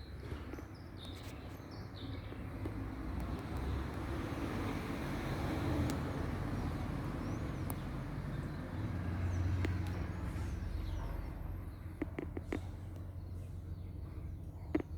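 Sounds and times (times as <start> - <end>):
low rumble of road traffic: 0.0 - 14.9.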